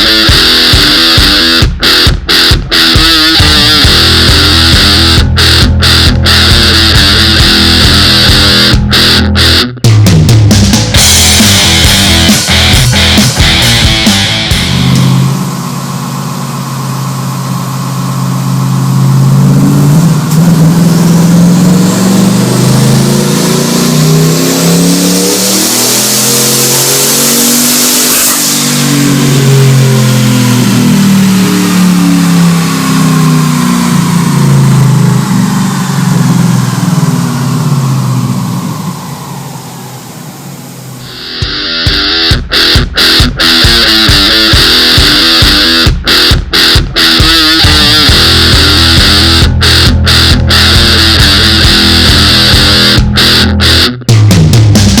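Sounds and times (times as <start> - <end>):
turbo whistle: 0.0 - 9.9, 16.6 - 54.1
engine revving under load: 0.0 - 55.0.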